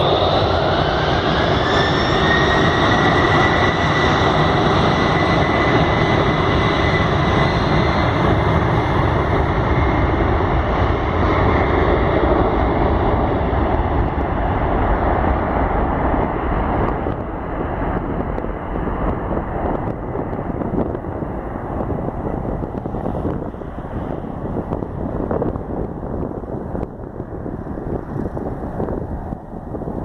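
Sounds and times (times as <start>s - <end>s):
jet engine rush: 0.0s - 30.0s.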